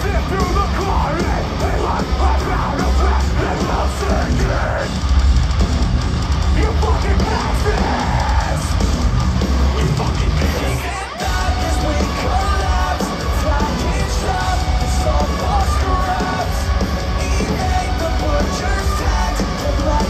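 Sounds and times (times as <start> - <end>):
heavy metal band playing: 0.0 - 20.0
yelled vocals: 0.0 - 20.0.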